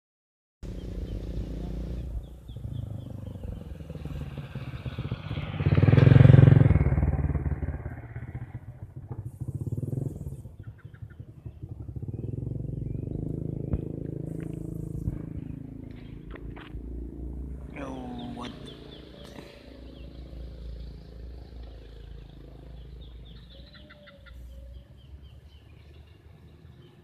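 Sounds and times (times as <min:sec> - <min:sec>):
vehicle passing by: 0:00.6 - 0:27.0.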